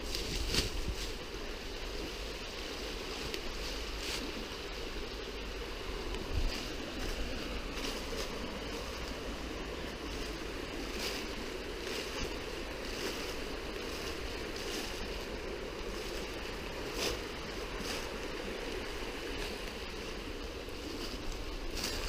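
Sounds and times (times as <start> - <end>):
footsteps in dry leaves: 0.0 - 22.0
river flowing: 0.0 - 22.0.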